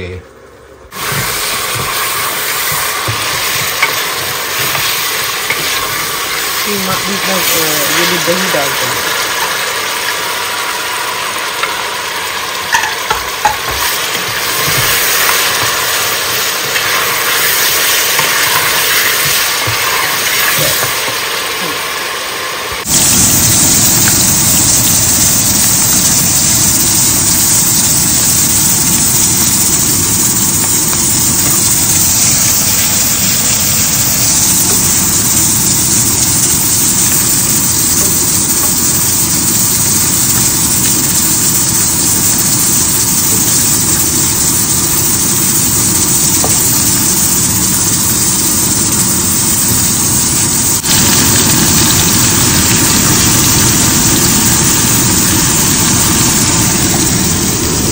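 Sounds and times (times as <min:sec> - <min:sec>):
vegetables sizzling in hot oil: 0:00.9 - 0:57.9.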